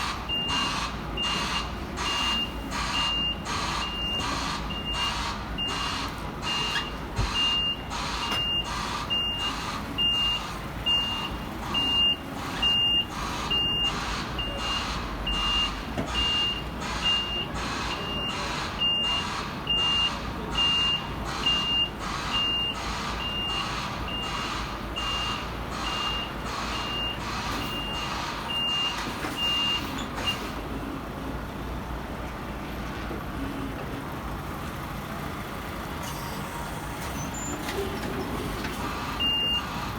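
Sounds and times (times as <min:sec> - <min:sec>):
truck reversing alarm beeps: 0:00.0 - 0:31.1, 0:36.0 - 0:39.9
truck engine running: 0:00.0 - 0:39.9.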